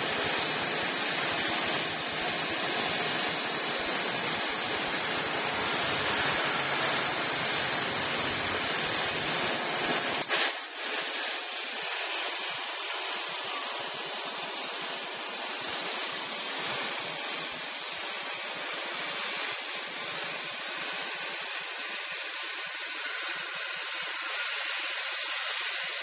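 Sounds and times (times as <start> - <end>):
drilling machine hissing: 0.0 - 26.0.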